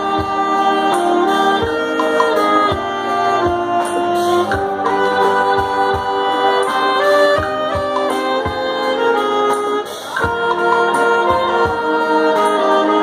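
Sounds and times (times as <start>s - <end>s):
band playing: 0.0s - 13.0s
steady drum beat: 0.0s - 13.0s.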